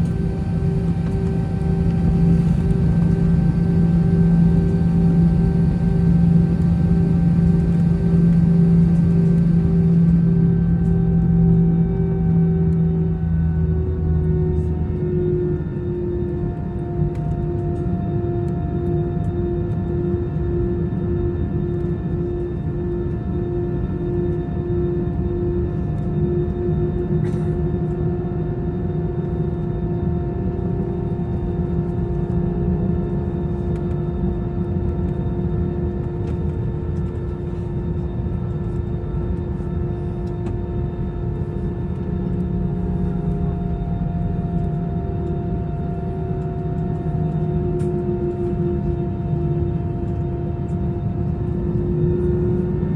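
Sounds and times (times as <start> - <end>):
jet engine drone in cabin: 0.0 - 52.9.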